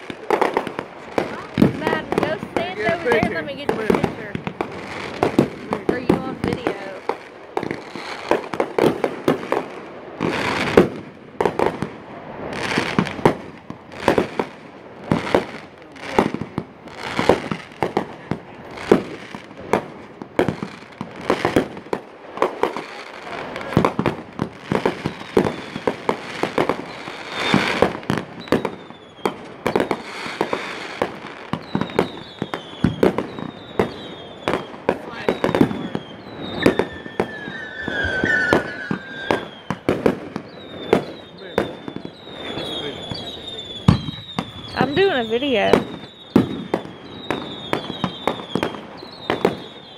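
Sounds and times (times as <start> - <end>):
firework bangs: 0.0 - 49.9
firework crackle: 0.0 - 49.9
falling firework whistles: 7.6 - 16.4, 18.7 - 49.9.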